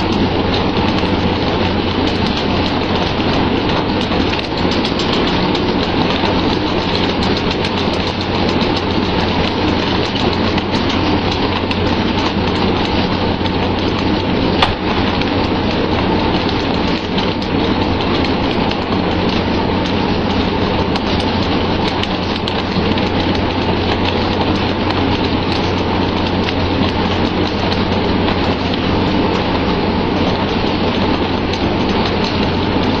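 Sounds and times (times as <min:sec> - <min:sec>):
boat engine hum: 0:00.0 - 0:33.0
water pattering onto sea surface: 0:00.0 - 0:33.0.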